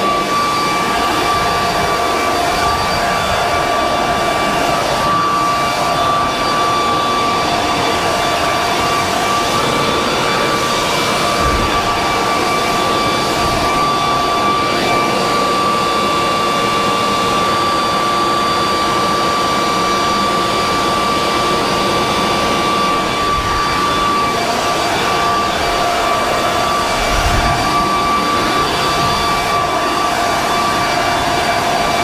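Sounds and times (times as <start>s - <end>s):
leaf blower running: 0.0s - 32.0s.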